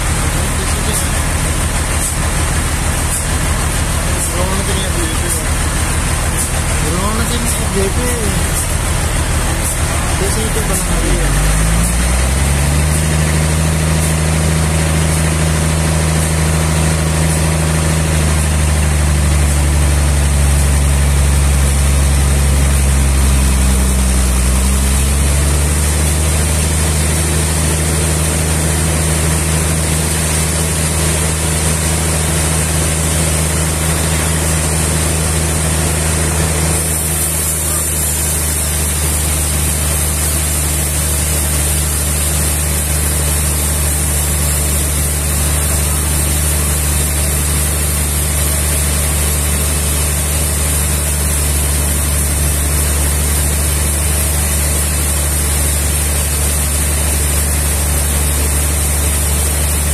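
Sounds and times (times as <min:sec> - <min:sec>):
large engine running: 0:00.0 - 0:59.9.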